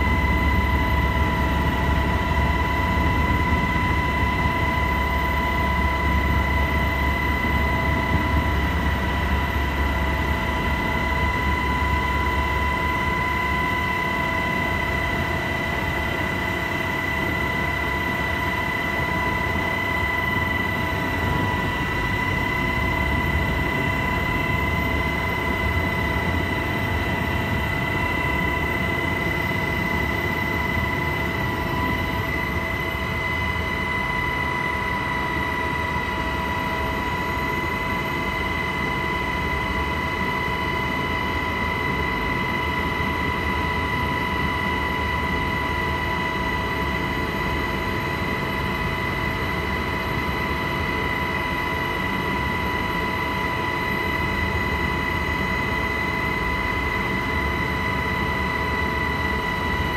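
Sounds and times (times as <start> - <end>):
helicopter turbine whine: 0.0 - 59.9.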